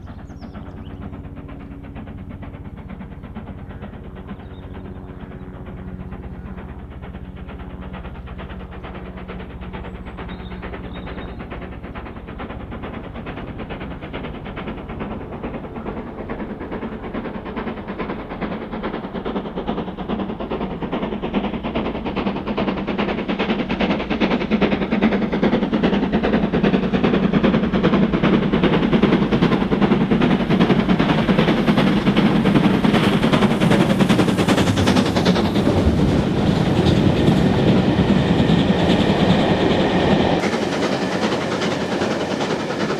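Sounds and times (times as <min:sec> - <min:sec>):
steam locomotive exhaust beats: 0:00.0 - 0:42.9.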